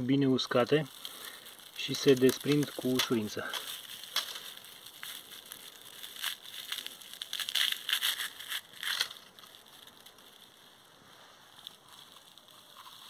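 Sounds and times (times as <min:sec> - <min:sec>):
dry seed heads crackling: 0:00.0 - 0:13.0.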